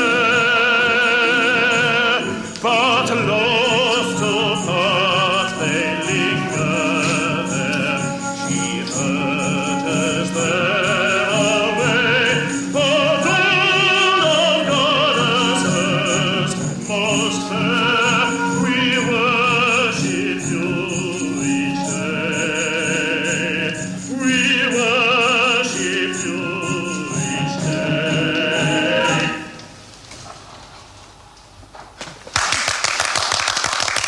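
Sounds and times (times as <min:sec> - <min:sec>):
operatic voice singing: 0:00.0 - 0:29.6
instrumental accompaniment: 0:00.0 - 0:29.8.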